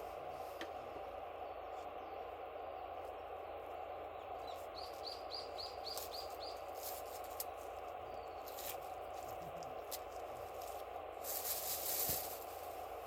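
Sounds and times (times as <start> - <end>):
songbird chirping: 0.0 - 13.0
steady hiss: 0.0 - 13.0.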